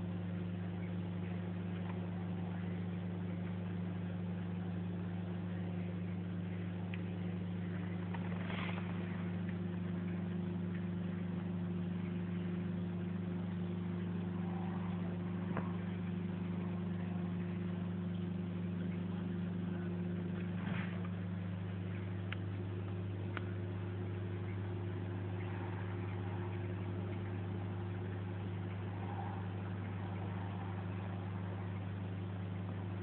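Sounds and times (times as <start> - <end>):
aquarium pump humming: 0.0 - 33.0.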